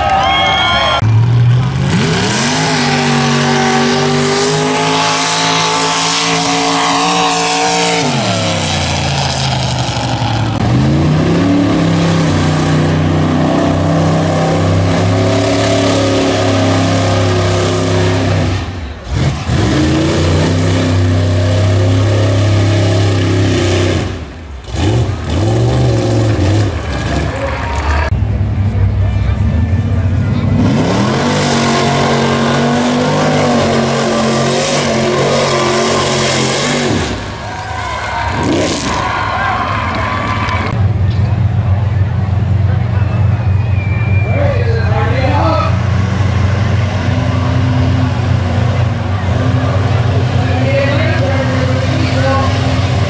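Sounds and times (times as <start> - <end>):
engines revving at full throttle: 0.9 - 53.0.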